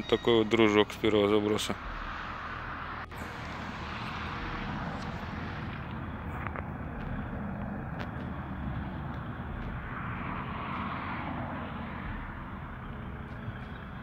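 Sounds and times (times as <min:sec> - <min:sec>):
steady rushing noise: 0:01.4 - 0:14.0.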